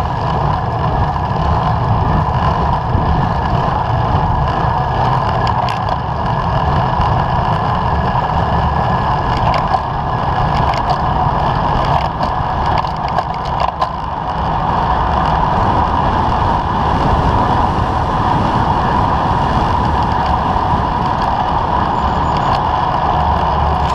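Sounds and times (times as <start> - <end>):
bicycle tyres on asphalt: 0.0 - 23.9
wind on microphone: 0.0 - 23.9.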